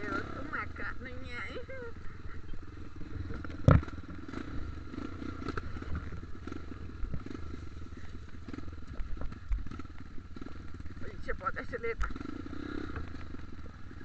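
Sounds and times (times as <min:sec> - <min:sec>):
dirt bike engine running: 0:00.0 - 0:14.0
bike knocking and rattling: 0:01.9 - 0:14.0.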